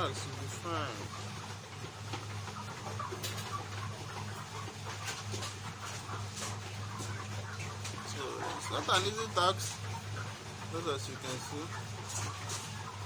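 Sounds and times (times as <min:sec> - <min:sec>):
chicken clucking: 0:00.0 - 0:13.0.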